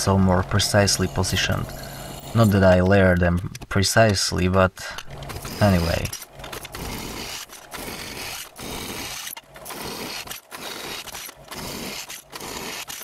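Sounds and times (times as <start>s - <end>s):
drill press grinding steel: 0.0s - 13.0s.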